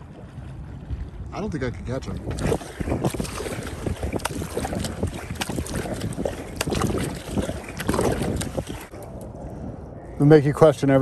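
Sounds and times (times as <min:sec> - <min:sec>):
water washing past hull: 0:00.0 - 0:09.0
paddle blades splashing water: 0:00.0 - 0:09.2
wind rumble on microphone: 0:00.0 - 0:11.0.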